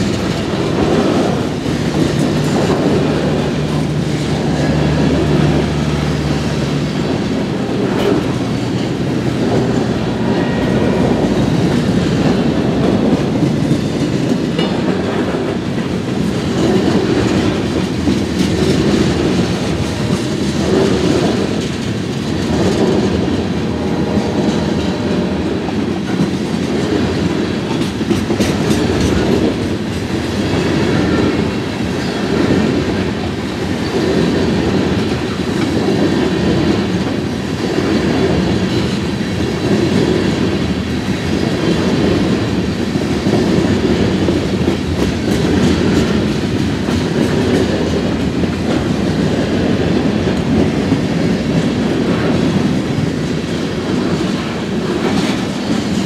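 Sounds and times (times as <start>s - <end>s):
clickety-clack over rail joints: 0.0s - 56.0s
train wheels rumbling on rail: 0.0s - 56.0s.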